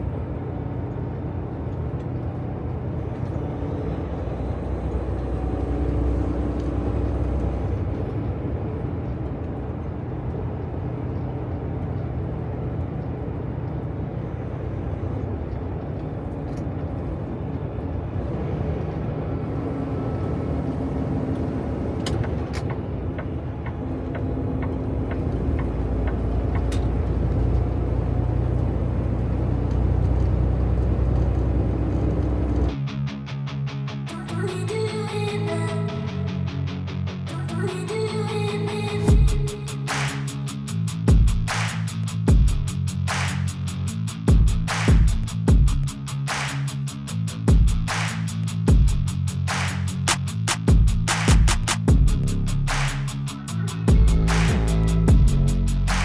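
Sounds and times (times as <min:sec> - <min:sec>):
road noise: 0:00.0 - 0:32.8, 0:34.2 - 0:56.0
truck engine drone: 0:00.0 - 0:56.0.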